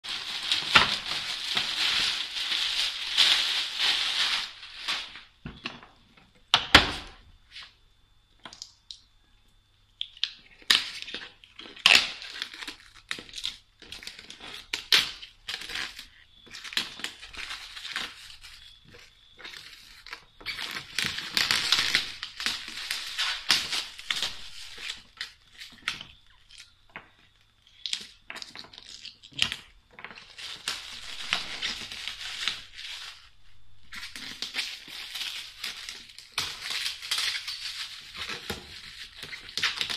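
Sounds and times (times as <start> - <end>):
plastic wrap crinkling: 0.0 - 5.8, 10.3 - 39.9.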